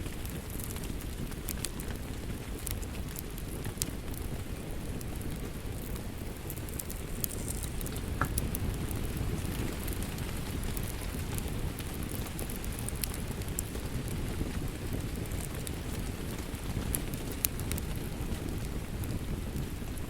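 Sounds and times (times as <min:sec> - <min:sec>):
low rumble of burning: 0:00.0 - 0:20.0
wood fire snaps and pops: 0:00.0 - 0:20.0.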